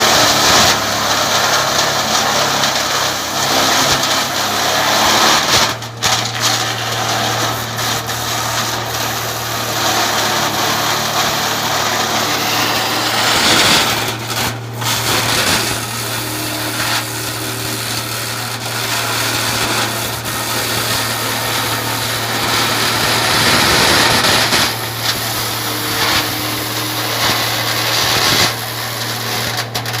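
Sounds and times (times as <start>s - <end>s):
wood chipper grinding: 0.0s - 30.0s.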